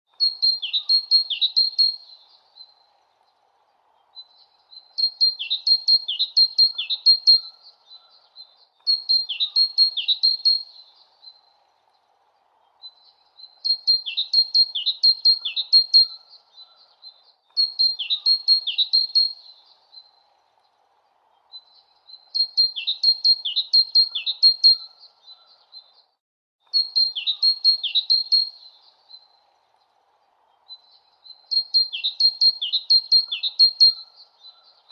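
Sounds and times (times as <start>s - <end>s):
songbird chirping: 0.1s - 34.9s.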